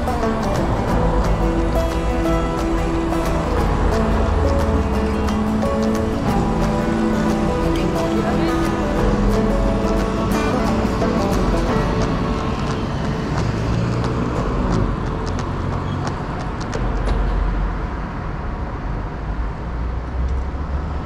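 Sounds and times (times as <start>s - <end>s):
cars and trucks passing: 0.0s - 21.0s.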